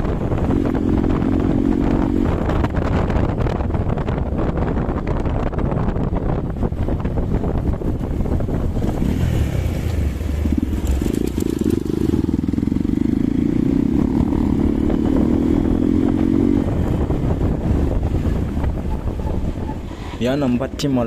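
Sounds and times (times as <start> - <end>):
motorcycle engine running: 0.0 - 19.9
wind buffeting microphone: 0.0 - 21.0.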